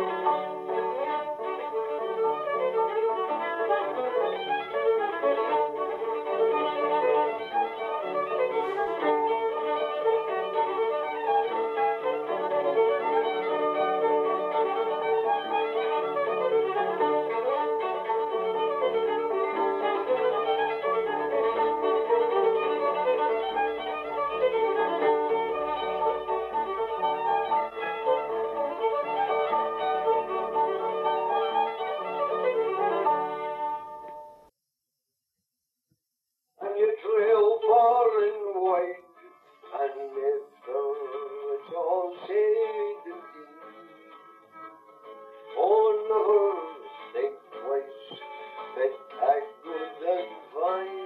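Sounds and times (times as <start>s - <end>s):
fiddle tune: 0.0s - 34.5s, 36.6s - 51.0s.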